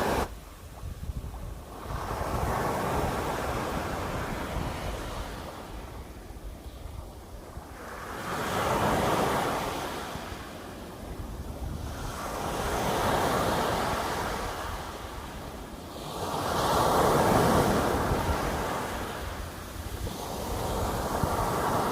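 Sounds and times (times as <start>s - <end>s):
sea waves breaking: 0.0s - 21.9s
wind on microphone: 0.0s - 21.9s.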